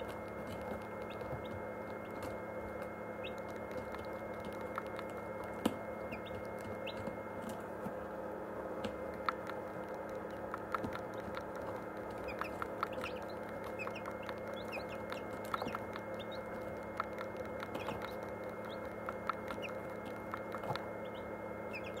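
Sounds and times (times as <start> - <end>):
chicks cheeping: 0.0 - 7.2, 9.2 - 22.0
incubator humming: 0.0 - 22.0.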